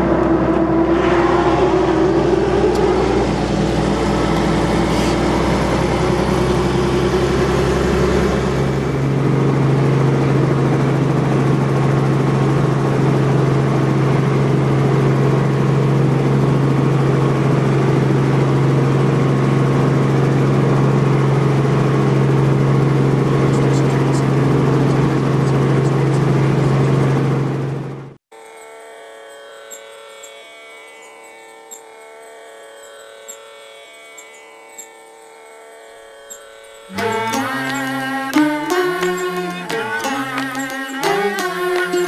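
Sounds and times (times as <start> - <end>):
helicopter engine and rotor drone: 0.0 - 28.8, 31.7 - 42.0.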